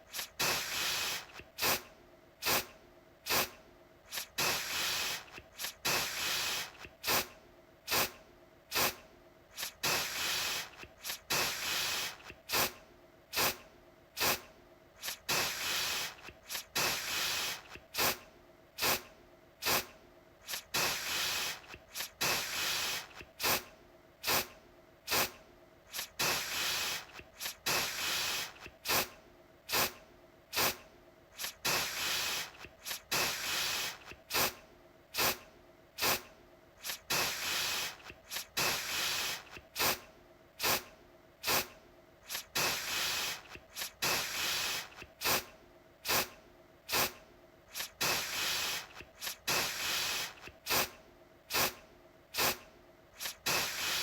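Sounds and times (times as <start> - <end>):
aerosol can spraying: 0.1 - 2.7, 3.3 - 7.3, 7.9 - 13.6, 14.2 - 14.4, 15.0 - 18.2, 18.8 - 24.5, 25.1 - 30.8, 31.4 - 34.6, 35.2 - 35.4, 36.0 - 40.0, 40.6 - 51.8, 52.4 - 52.6, 53.2 - 54.0.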